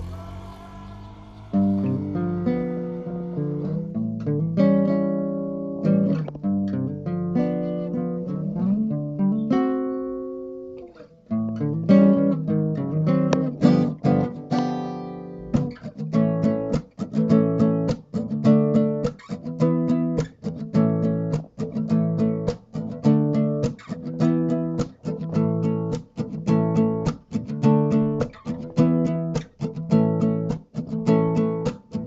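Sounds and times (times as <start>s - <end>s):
acoustic guitar chords: 0.0s - 32.0s.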